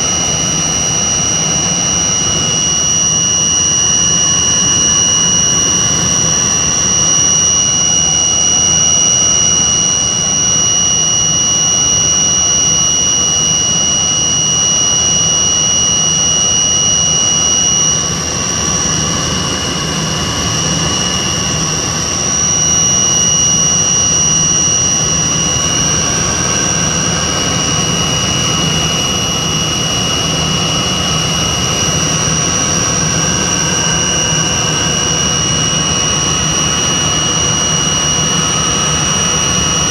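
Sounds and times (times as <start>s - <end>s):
jet engines with high whine: 0.0s - 39.9s.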